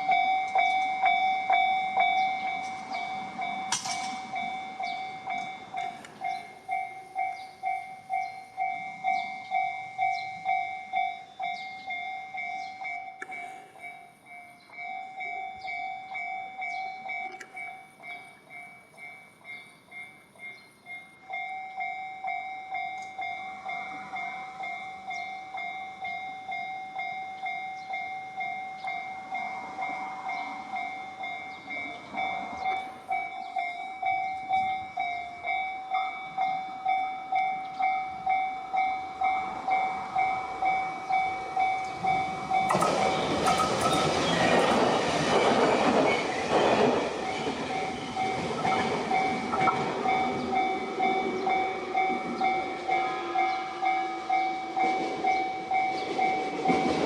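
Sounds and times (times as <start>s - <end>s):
level-crossing alarm bells: 0.0s - 57.0s
train wheels clattering on rails: 0.0s - 57.0s.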